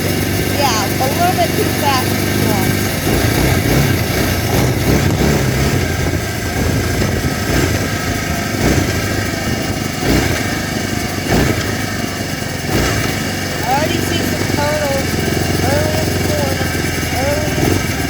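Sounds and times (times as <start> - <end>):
quad engine running: 0.0 - 18.0.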